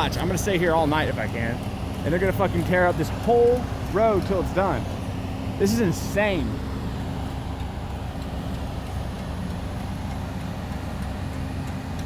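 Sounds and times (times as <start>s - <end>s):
construction equipment engines: 0.0s - 12.0s
passing traffic: 0.0s - 12.0s.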